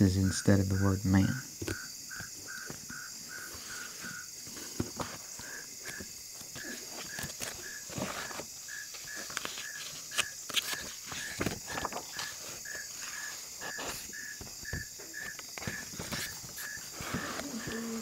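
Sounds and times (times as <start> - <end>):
crickets chirping: 0.0 - 18.0
high insect drone: 0.0 - 18.0
papers rustling and tapping: 1.6 - 18.0.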